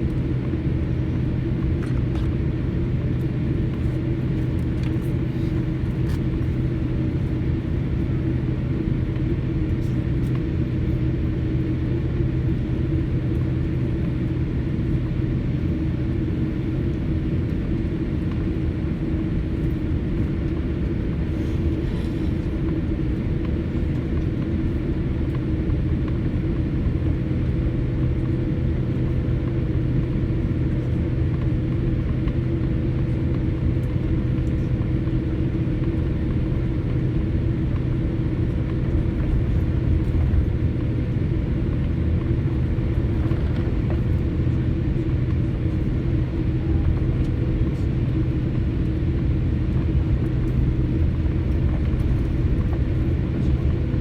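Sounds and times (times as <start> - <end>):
airliner cabin hum: 0.0 - 54.0.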